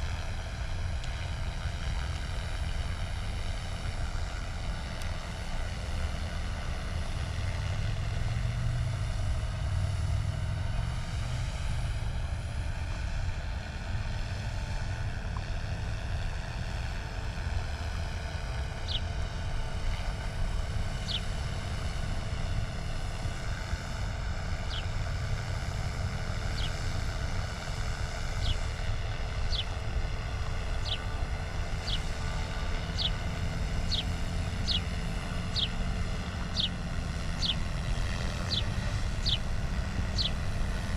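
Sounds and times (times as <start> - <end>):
helicopter droning: 0.0 - 40.9.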